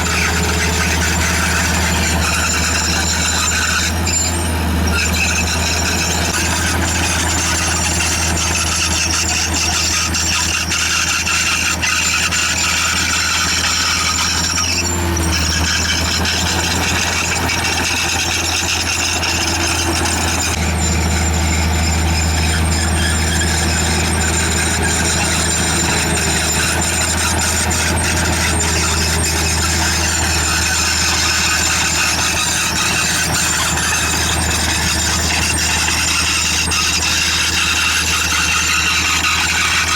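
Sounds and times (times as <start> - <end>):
bulldozer diesel engine hum: 0.0 - 39.9
high squealing tones: 0.0 - 39.9.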